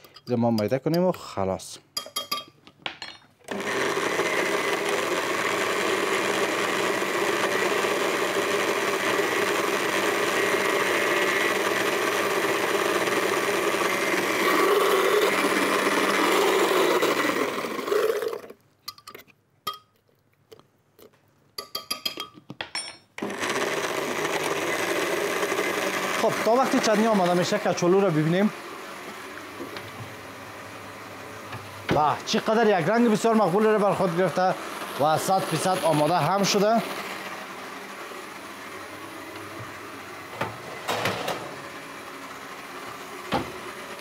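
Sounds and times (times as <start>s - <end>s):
blender running: 3.4s - 18.6s, 23.2s - 44.0s.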